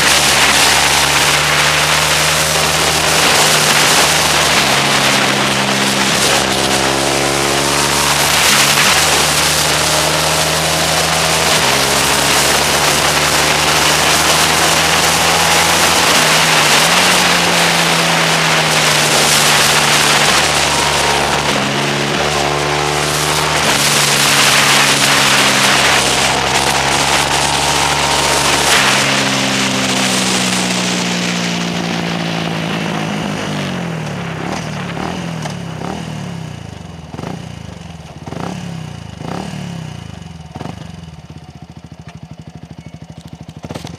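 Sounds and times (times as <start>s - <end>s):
wind rush: 0.0s - 36.0s
motorcycle engine revving: 0.0s - 43.9s.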